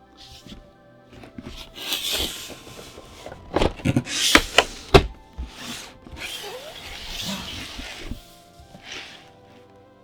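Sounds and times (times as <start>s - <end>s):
rustling: 0.0s - 10.0s
soft music of held tones: 0.0s - 10.0s.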